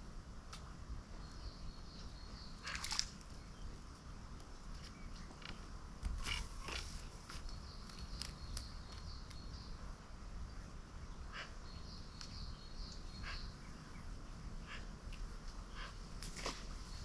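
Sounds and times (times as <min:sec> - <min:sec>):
birds chirping: 0:00.7 - 0:17.0.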